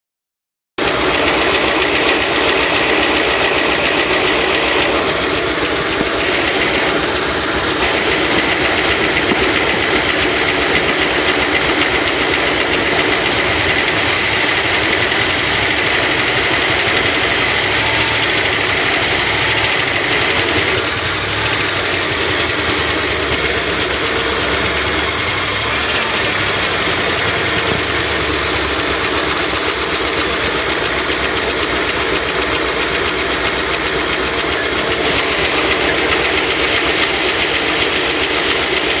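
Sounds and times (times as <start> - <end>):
engine idling: 0.8 - 39.0
rapid engine ticking: 0.8 - 39.0.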